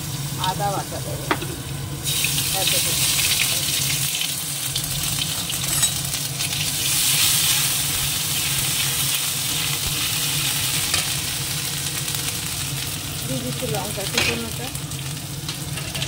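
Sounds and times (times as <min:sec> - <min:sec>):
paste sizzling in hot oil: 0:01.9 - 0:16.0.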